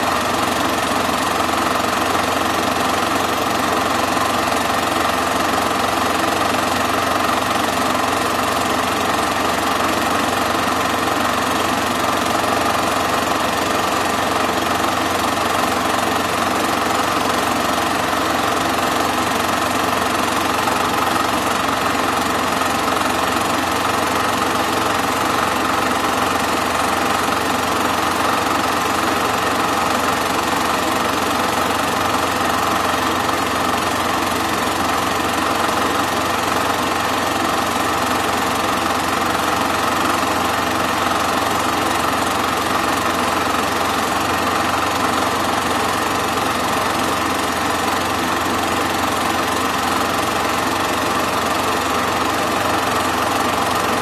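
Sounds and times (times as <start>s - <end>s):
film projector running: 0.0s - 54.0s.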